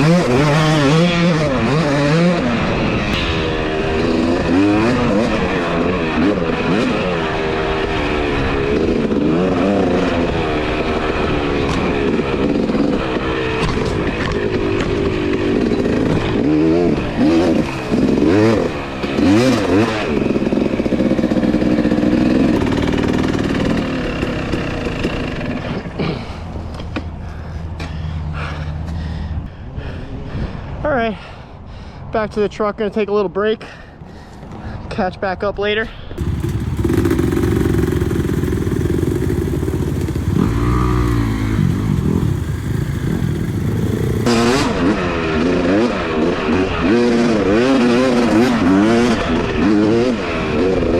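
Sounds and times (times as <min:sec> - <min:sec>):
dirt bike engine revving: 0:00.0 - 0:26.2, 0:36.2 - 0:50.9.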